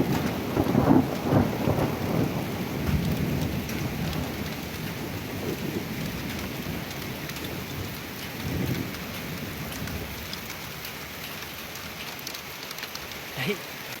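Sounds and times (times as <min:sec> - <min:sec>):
thunder rumbling: 0:00.0 - 0:12.1
rain falling: 0:00.0 - 0:14.0.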